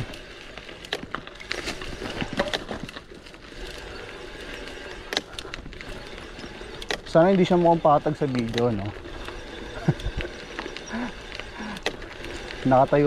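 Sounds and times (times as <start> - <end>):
bicycle rattling over gravel: 0.0 - 13.0.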